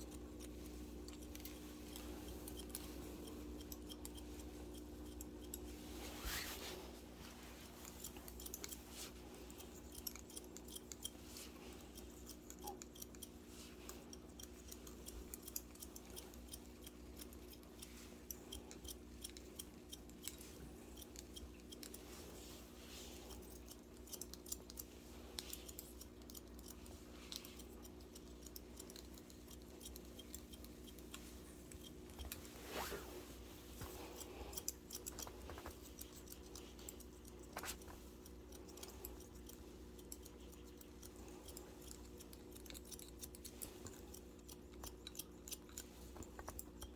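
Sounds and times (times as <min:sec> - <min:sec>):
shears snipping hair: 0:00.0 - 0:46.9
steady low hum: 0:00.0 - 0:46.9.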